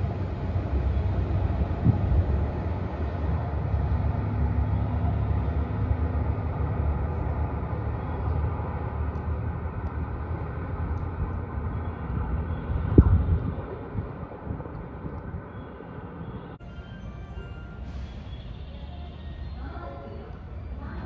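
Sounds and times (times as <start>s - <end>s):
diesel train engine rumbling: 0.0s - 21.0s.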